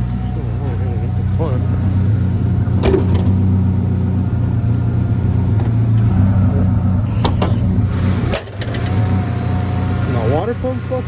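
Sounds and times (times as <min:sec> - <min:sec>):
cooling fan running: 0:00.0 - 0:11.0
pickup engine idling: 0:00.0 - 0:11.0.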